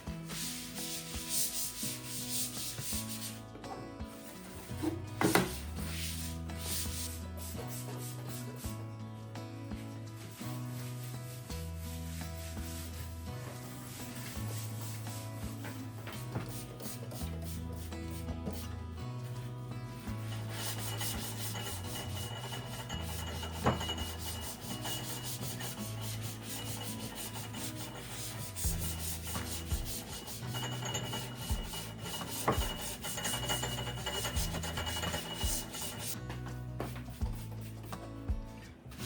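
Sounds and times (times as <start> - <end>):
scrubbing hard surface: 0.0 - 3.4, 4.1 - 8.7, 10.1 - 18.7, 20.0 - 38.1.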